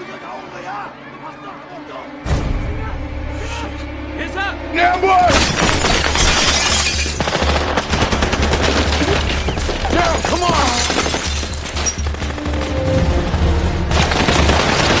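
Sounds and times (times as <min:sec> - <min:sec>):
dramatic music score: 0:00.0 - 0:15.0.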